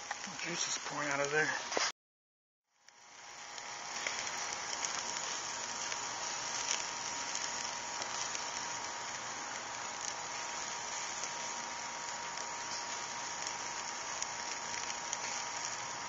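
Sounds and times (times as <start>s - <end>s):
juices dripping on hot coals: 0.0s - 1.6s, 2.7s - 16.0s
meat sizzling on charcoal grill: 0.0s - 1.9s, 2.7s - 16.0s.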